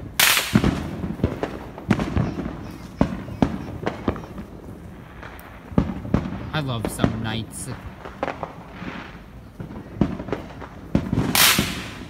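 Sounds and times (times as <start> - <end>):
firework hissing crackle: 0.0 - 12.0
fireworks bangs and pops: 0.0 - 12.0.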